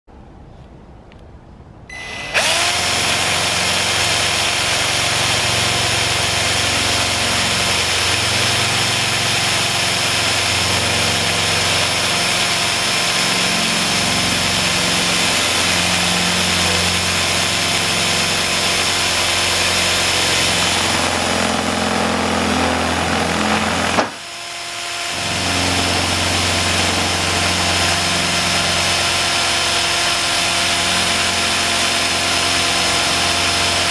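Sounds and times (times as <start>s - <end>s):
drill press motor whining: 1.9s - 33.9s.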